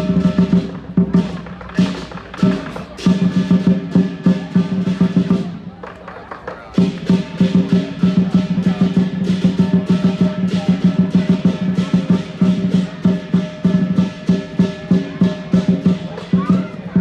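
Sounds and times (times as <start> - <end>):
crashing cymbals: 0.0 - 5.6, 6.7 - 17.0
large drum fast rhythm: 0.0 - 17.0.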